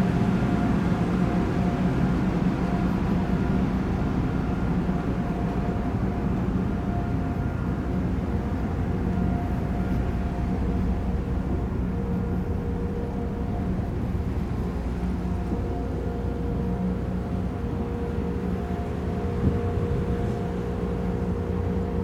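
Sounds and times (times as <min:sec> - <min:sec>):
ship engines rumbling: 0:00.0 - 0:22.0
faint steady tone: 0:00.2 - 0:22.0.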